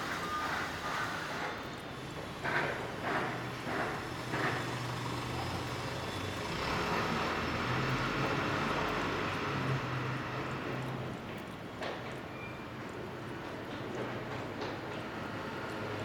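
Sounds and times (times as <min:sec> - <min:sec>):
low hum of traffic: 0:00.0 - 0:16.0
cat lapping water: 0:00.5 - 0:16.0.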